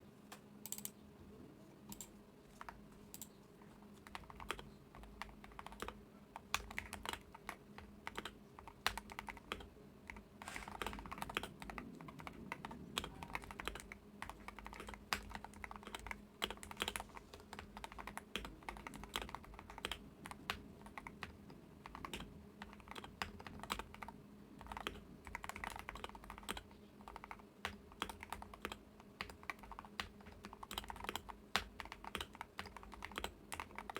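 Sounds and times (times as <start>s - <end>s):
keyboard typing: 0.6s - 1.0s, 1.9s - 33.9s.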